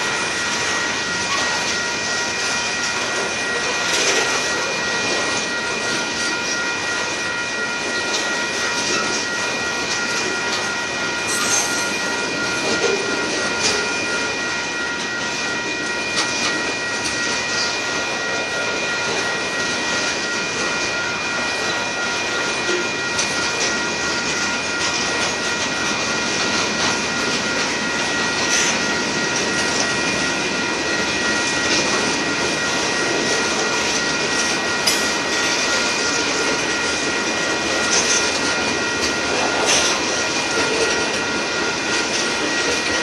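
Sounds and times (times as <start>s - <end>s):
steady high whine: 0.0s - 43.0s
train wheels rumbling on rails: 0.0s - 43.0s.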